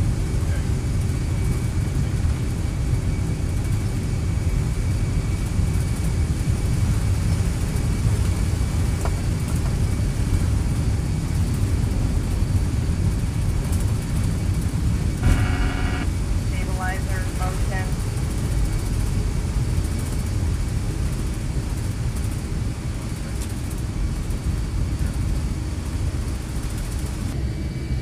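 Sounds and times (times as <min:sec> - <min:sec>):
jet aircraft rumble: 0:00.0 - 0:28.0.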